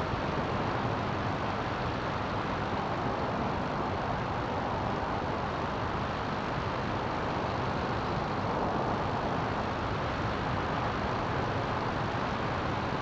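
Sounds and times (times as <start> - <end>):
aircraft engine and propeller drone: 0.0 - 13.0.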